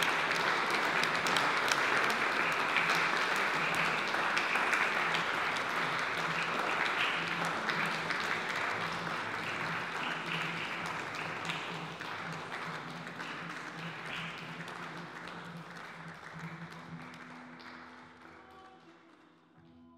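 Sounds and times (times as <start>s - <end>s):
audience applauding: 0.0s - 19.2s.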